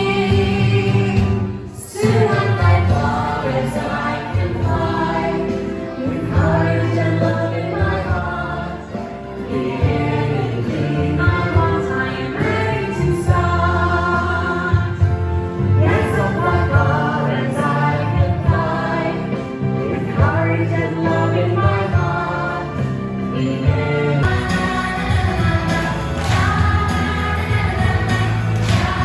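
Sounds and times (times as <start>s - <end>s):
choir singing: 0.0s - 15.2s, 15.8s - 29.0s.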